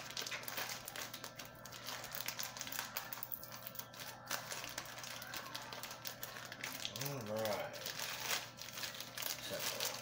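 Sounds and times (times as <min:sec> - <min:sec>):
packing tape and paper crackling: 0:00.0 - 0:10.0.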